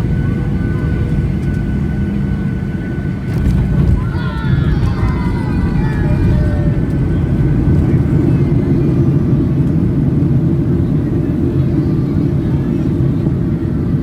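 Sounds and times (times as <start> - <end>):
airliner low rumble: 0.0 - 14.0.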